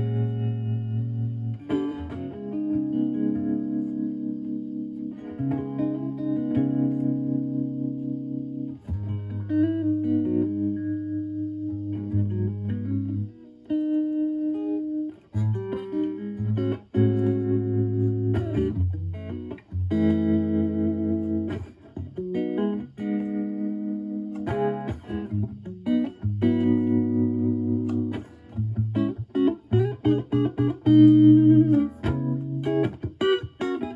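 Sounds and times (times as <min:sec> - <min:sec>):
electric guitar chords with tremolo: 0:00.0 - 0:33.9.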